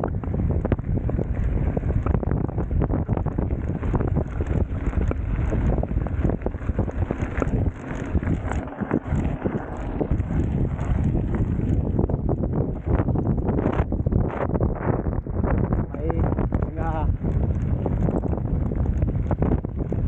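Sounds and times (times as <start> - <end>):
bike clicks and rattles: 0.0 - 14.6, 15.3 - 20.0
bike tyres rumbling on gravel: 0.0 - 20.0
wind buffeting microphone: 0.0 - 20.0.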